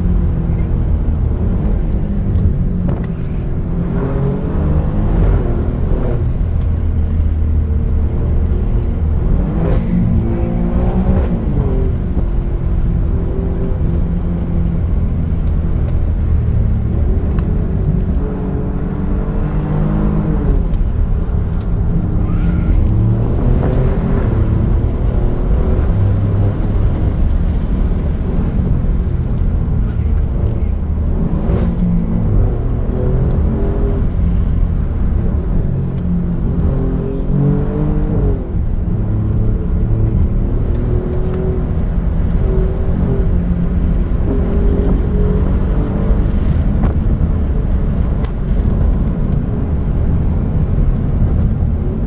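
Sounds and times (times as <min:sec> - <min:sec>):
car engine accelerating: 0:00.0 - 0:52.0
road and tyre rumble: 0:00.0 - 0:52.0.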